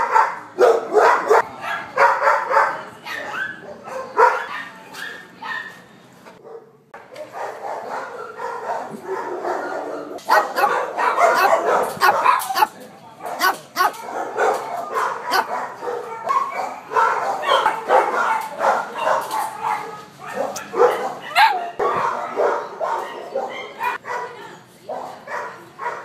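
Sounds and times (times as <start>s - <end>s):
dogs barking and yipping: 0.0s - 5.8s, 6.4s - 26.0s.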